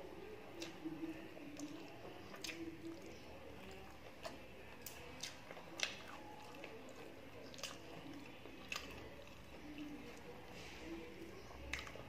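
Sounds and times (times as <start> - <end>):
wet chewing with mouth closed: 0.4 - 12.0.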